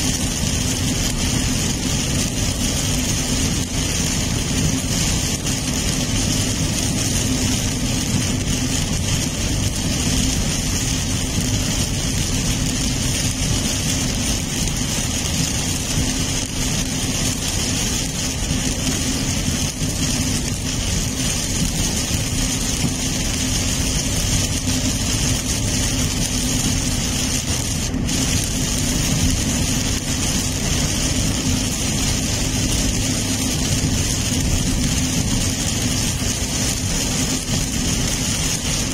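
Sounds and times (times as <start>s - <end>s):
low car hum: 0.0s - 38.9s
rain hitting car: 0.0s - 38.9s
tyres hissing on wet road: 0.0s - 38.9s.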